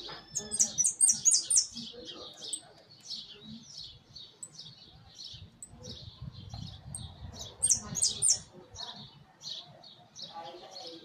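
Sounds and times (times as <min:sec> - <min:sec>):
finch chirping: 0:00.0 - 0:09.6.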